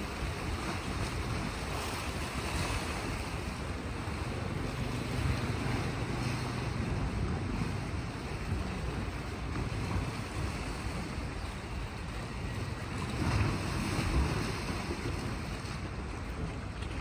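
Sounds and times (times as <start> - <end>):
sea waves on rocky shore: 0.0 - 17.0
wind rumbling on microphone: 0.0 - 17.0.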